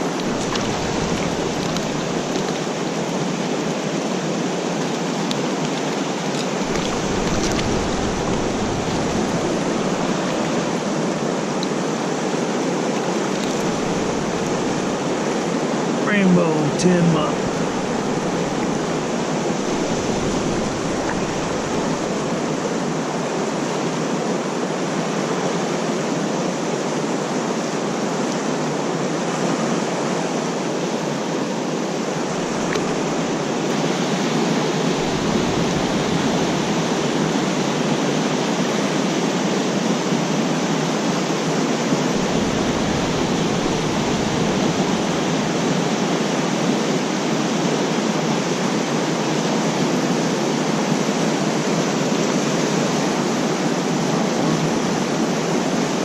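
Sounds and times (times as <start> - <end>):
creek rushing: 0.0 - 56.0.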